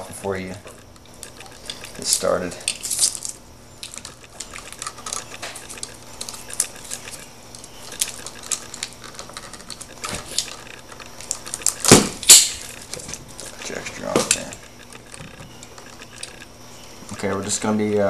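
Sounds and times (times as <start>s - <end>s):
clicks and rustles of wire: 0.0s - 17.9s.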